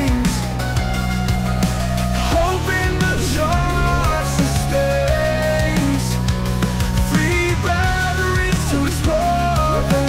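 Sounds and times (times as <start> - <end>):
instrumental rock music: 0.0 - 10.0.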